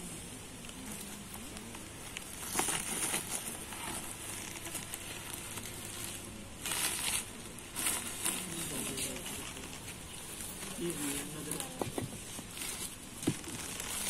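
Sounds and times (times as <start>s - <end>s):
plastic sack rustling and crinkling: 0.7s - 14.0s.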